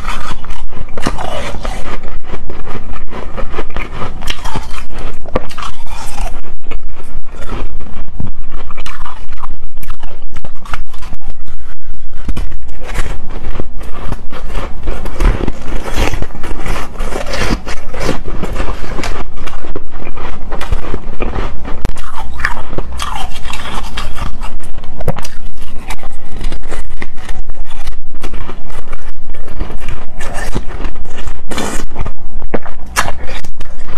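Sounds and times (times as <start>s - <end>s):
chewing crunchy ice: 0.0s - 33.9s.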